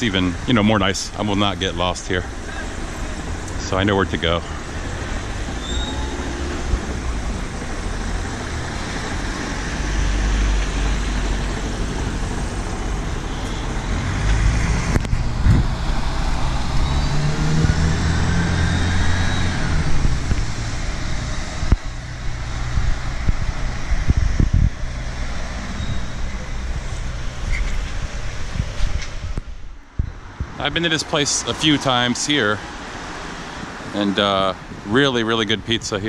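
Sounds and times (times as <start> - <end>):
passing vehicles: 0.0 - 36.0.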